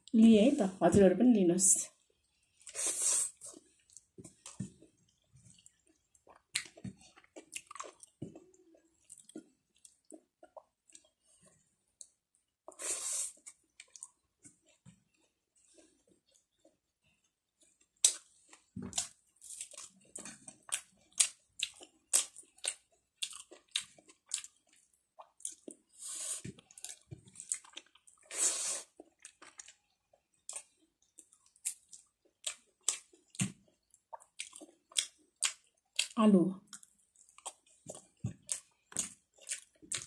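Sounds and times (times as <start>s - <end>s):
wet chewing clicks and smacks: 3.5s - 12.8s, 13.4s - 15.2s, 17.6s - 25.9s, 26.5s - 28.3s, 28.9s - 40.0s.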